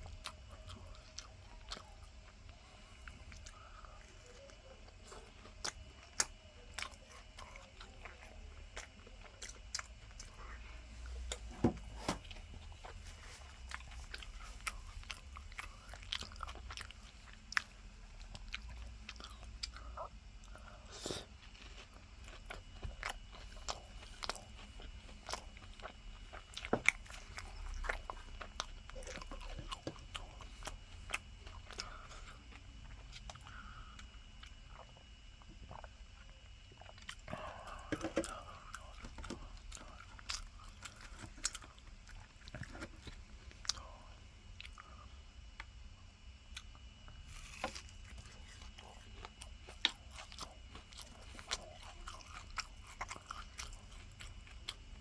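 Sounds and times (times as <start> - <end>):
crunching and chewing fried food: 0.0 - 55.0.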